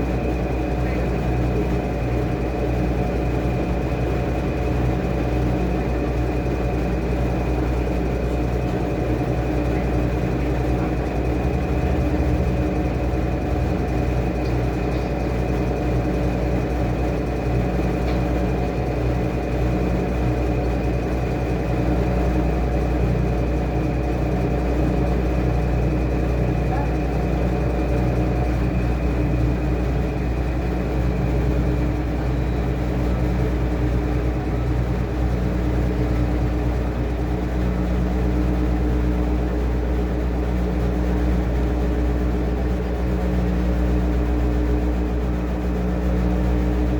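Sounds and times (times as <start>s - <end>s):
washing machine motor hum: 0.0s - 46.9s.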